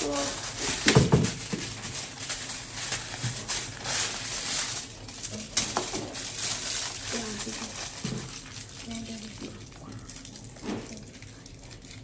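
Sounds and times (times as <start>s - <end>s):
foil rustling and crinkling: 0.0s - 12.0s.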